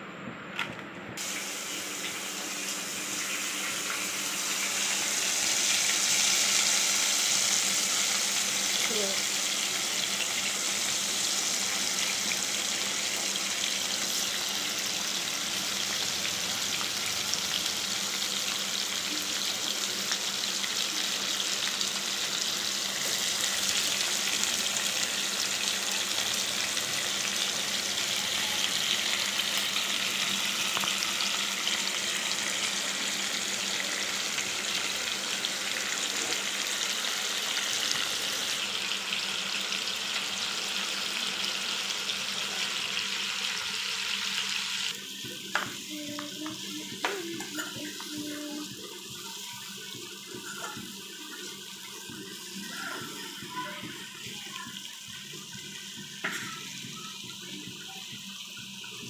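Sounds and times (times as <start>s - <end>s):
prawns sizzling in hot oil: 1.2s - 59.0s.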